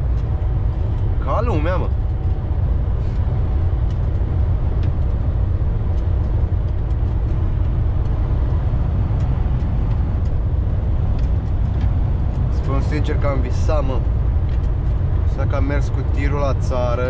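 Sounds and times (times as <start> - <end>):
truck engine and tyres droning: 0.0 - 17.0.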